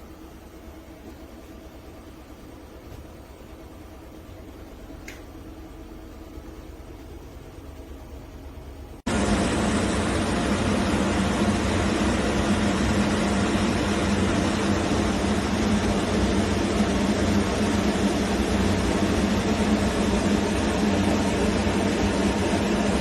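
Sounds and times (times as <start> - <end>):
fan running: 0.0 - 23.0.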